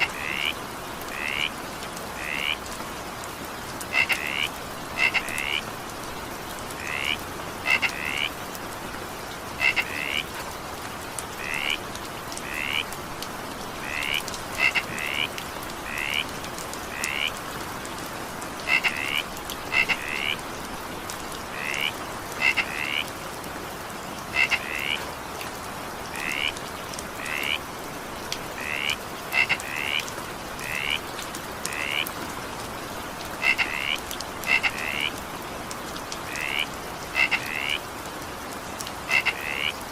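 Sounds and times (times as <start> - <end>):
frogs croaking: 0.0 - 2.7, 3.5 - 5.8, 6.6 - 8.5, 9.1 - 10.4, 11.3 - 17.8, 18.5 - 23.2, 23.9 - 25.3, 26.0 - 27.8, 28.4 - 35.4, 36.1 - 39.9
rain falling: 0.0 - 39.9.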